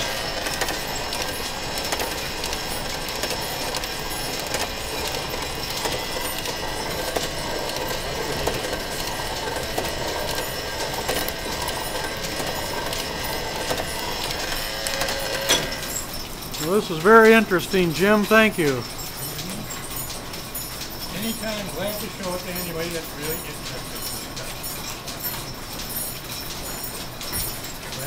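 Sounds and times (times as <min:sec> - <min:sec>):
lathe running: 0:00.0 - 0:28.0.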